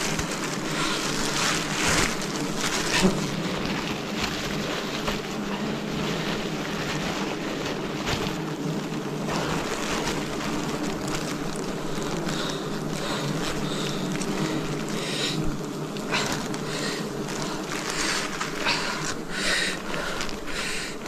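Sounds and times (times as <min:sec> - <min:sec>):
bee swarm humming: 0:00.0 - 0:21.0
faint crackles and clicks: 0:00.0 - 0:21.0.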